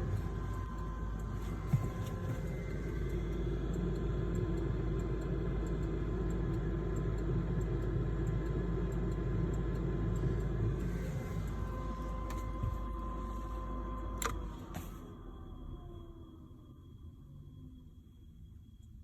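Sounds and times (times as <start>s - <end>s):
furnace blower humming: 0.0s - 15.4s.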